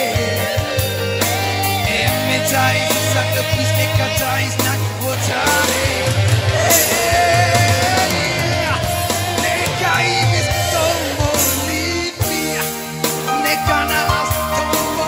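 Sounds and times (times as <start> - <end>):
keyboard accompaniment with beat: 0.0 - 15.0
man singing in raspy voice: 0.0 - 15.0.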